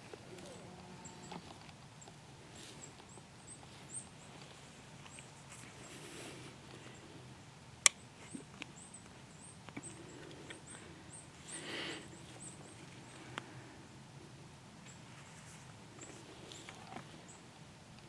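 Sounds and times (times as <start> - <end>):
rustle: 0.0 - 18.0.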